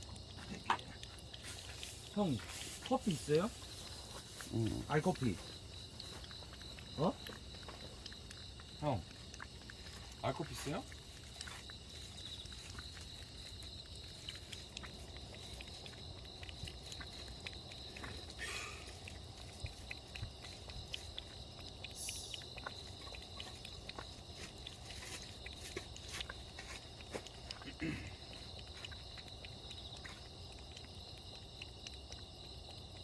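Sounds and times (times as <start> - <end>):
kitten lapping and eating: 0.0 - 33.0.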